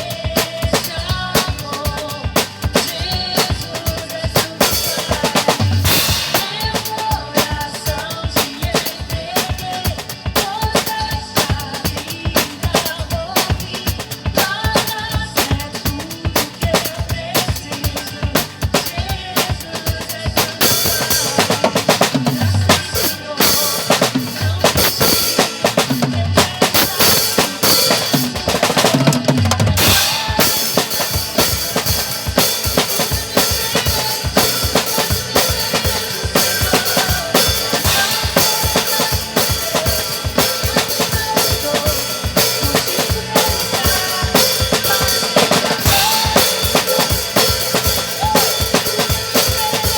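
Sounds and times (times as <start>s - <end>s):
backing music: 0.0s - 49.9s
drum kit playing a groove: 0.0s - 49.9s.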